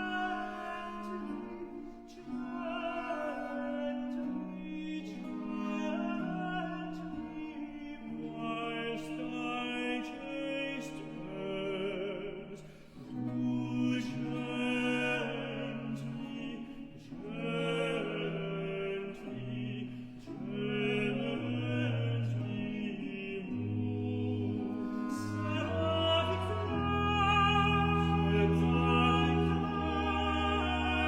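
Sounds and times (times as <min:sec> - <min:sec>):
slow baroque vocal duet: 0:00.0 - 0:31.0.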